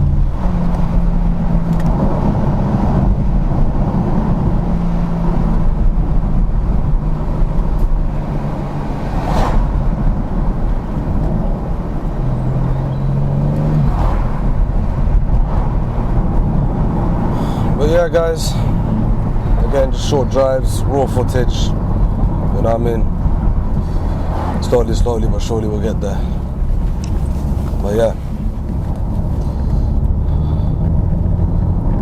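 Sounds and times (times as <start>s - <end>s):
car engine cruising: 0.0s - 32.0s
road and tyre rumble: 0.0s - 32.0s.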